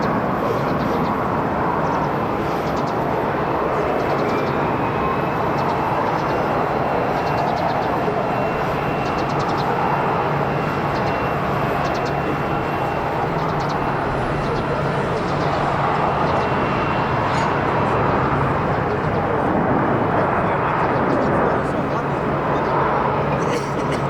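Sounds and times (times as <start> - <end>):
jet engines rushing: 0.0 - 24.0.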